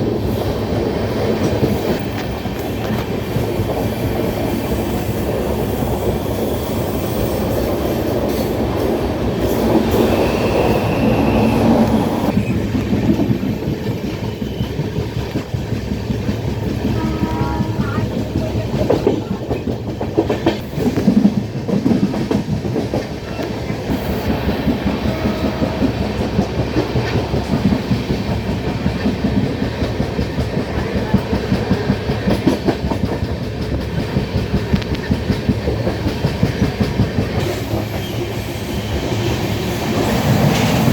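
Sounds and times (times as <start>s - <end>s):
clickety-clack over rail joints: 0.0s - 40.9s
train wheels rumbling: 0.0s - 40.9s.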